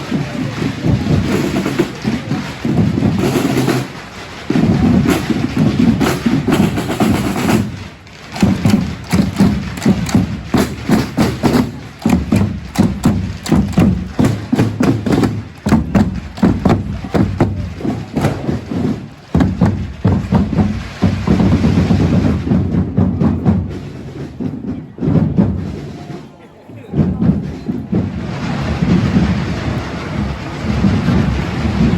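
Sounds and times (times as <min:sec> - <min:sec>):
marching band drums beating: 0:00.0 - 0:31.9.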